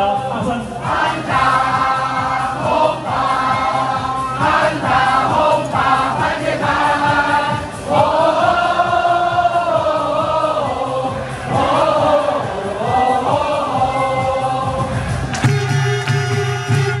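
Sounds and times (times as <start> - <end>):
stadium crowd chanting a cheer song: 0.1 - 17.0.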